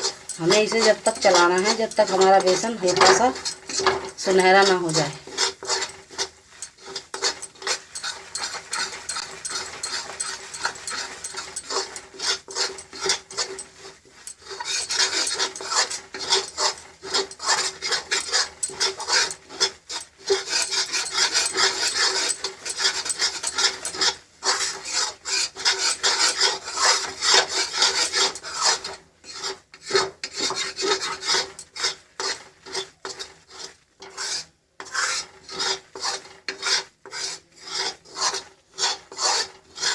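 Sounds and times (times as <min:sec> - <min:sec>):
flour roasting in a pan: 0:00.0 - 0:39.9
spoon scraping a pan: 0:00.0 - 0:39.9.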